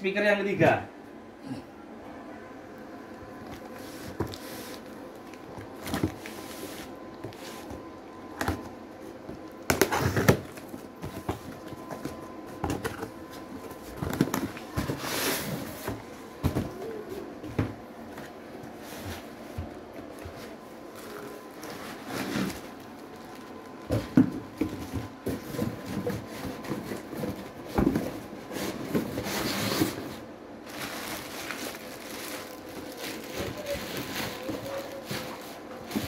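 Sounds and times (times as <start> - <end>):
cardboard rustling and scraping: 3.4 - 36.0.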